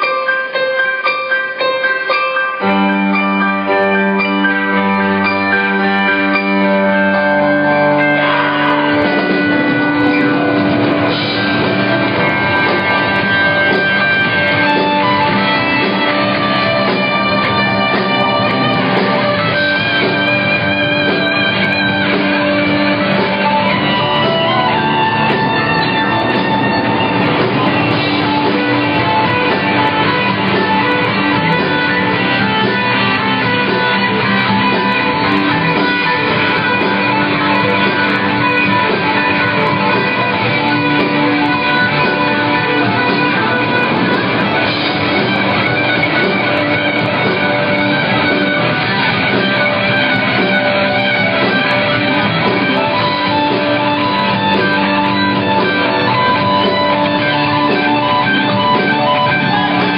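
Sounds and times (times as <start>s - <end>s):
electric guitar: 0.0s - 59.9s
rock band playing live: 0.0s - 59.9s.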